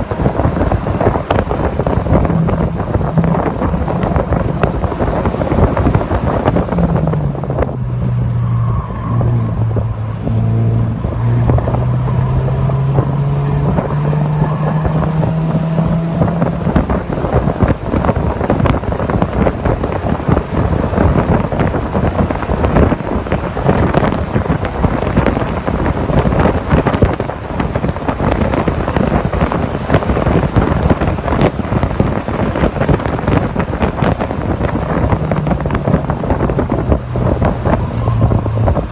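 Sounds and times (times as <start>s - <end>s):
car engine accelerating: 0.0s - 38.9s
wind buffeting microphone: 0.0s - 38.9s.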